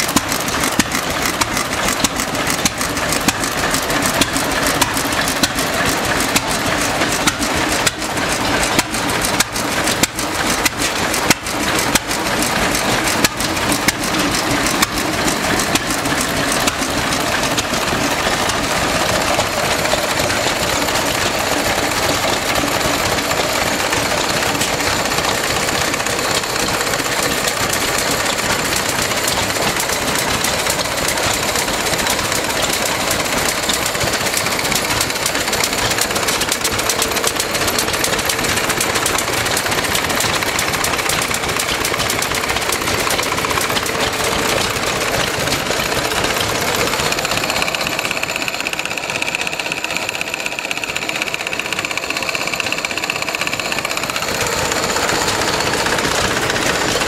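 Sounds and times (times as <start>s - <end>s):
stationary engines running: 0.0s - 57.0s.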